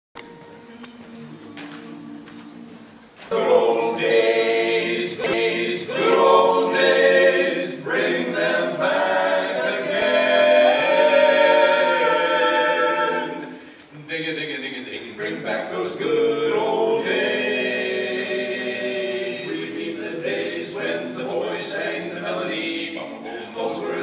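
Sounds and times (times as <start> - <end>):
men singing a cappella harmony: 3.4 - 13.7, 14.8 - 24.0.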